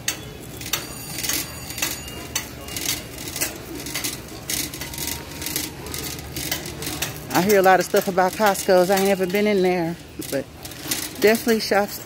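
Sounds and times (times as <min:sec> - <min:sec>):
shopping cart rattling: 0:00.0 - 0:12.0.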